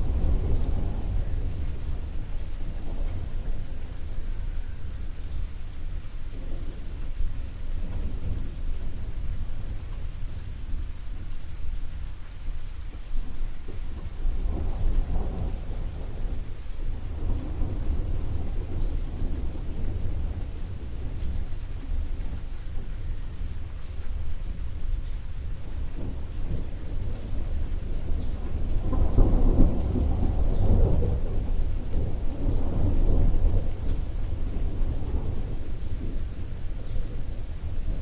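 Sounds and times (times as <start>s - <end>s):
steady rain: 0.0s - 38.0s
thunder rumbling: 0.0s - 38.0s.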